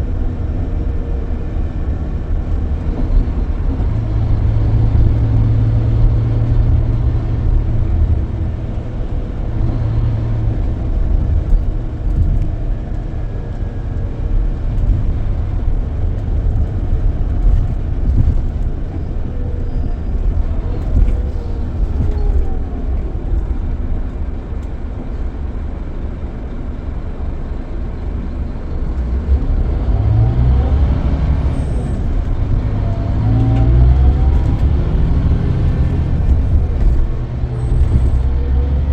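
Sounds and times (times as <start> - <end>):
diesel coach engine rumbling: 0.0 - 38.9.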